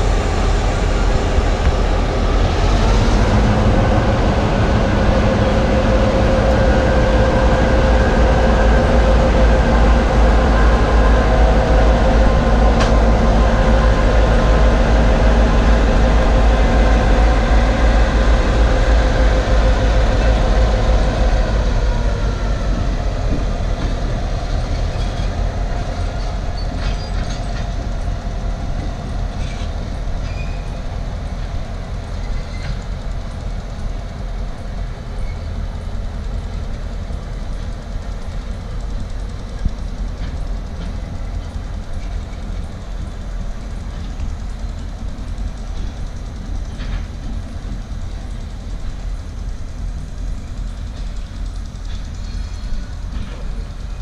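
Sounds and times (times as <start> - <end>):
diesel locomotives rumbling past: 0.0 - 54.0.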